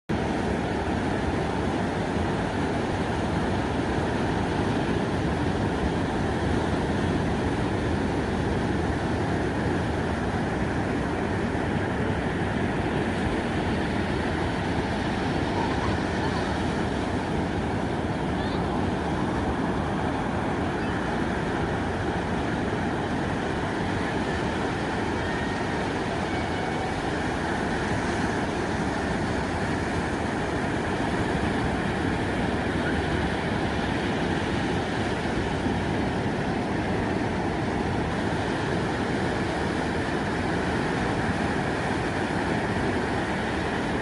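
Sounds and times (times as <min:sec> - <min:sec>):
ocean surf roaring: 0:00.1 - 0:44.0.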